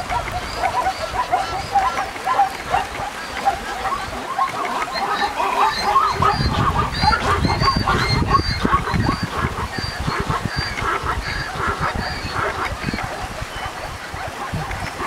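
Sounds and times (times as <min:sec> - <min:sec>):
zebras barking yelps: 0:00.0 - 0:15.0.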